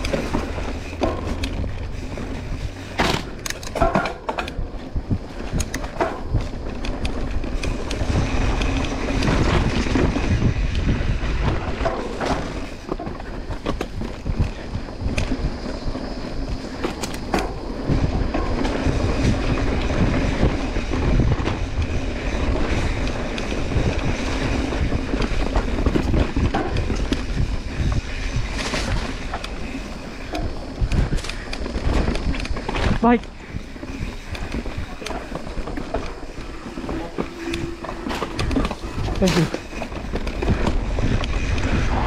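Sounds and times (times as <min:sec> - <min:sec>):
bike rattling and knocking: 0:00.0 - 0:42.0
bike tyres rolling on dirt: 0:00.0 - 0:42.0.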